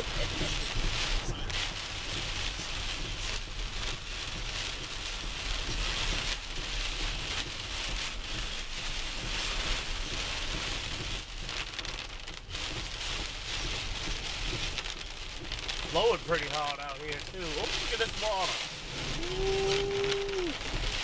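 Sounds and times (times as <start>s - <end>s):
heavy rain on car roof: 0.0s - 21.0s
low steady rumble: 0.0s - 21.0s.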